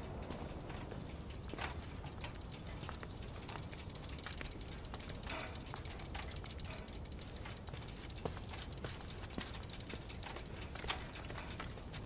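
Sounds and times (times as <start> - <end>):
bicycle freewheel ticking: 0.0 - 12.0.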